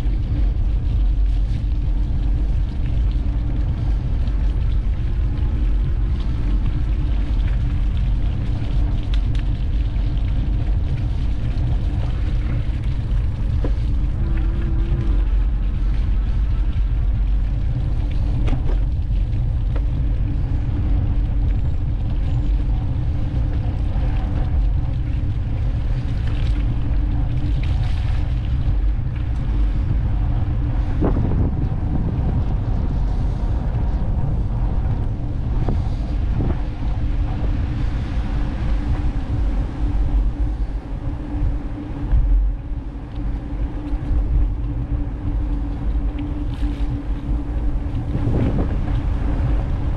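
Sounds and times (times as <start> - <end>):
faint steady hum: 0.0 - 49.9
wind buffeting microphone: 0.0 - 49.9.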